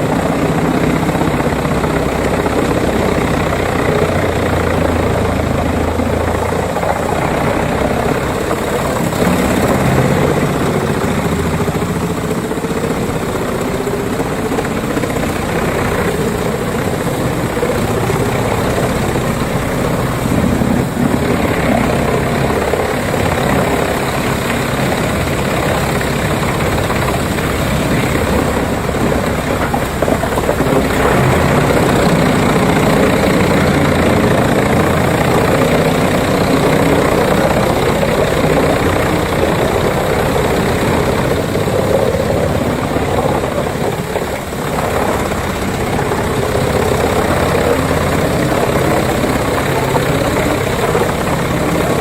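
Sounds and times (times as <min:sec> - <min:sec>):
wood chipper engine running: 0:00.0 - 0:52.0.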